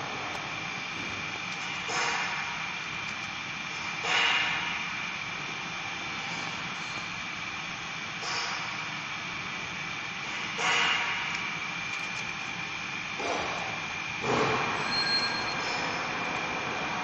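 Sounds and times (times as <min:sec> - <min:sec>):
mechanical whir with high whine: 0:00.0 - 0:17.0.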